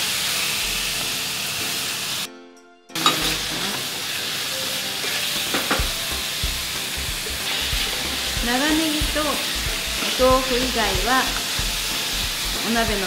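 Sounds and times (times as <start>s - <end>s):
vegetables sizzling in oil: 0.0s - 2.3s, 3.0s - 13.0s.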